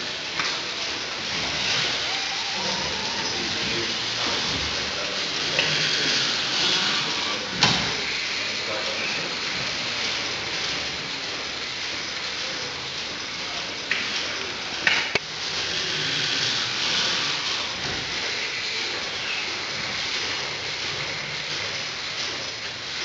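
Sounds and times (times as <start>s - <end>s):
steam engine hissing and clattering: 0.0s - 23.0s.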